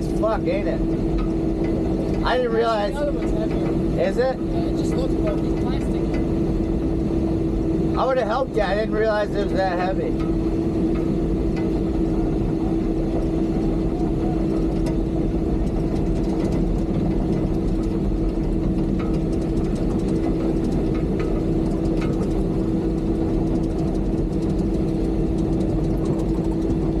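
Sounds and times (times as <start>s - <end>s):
excavator diesel engine humming: 0.0s - 27.0s.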